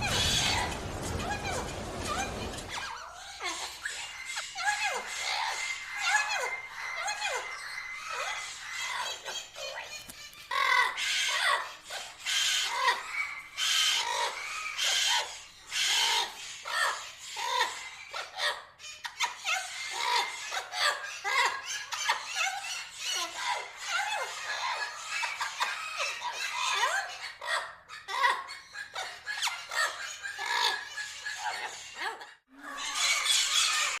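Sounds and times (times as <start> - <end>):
parrots squawking: 0.0 - 34.0.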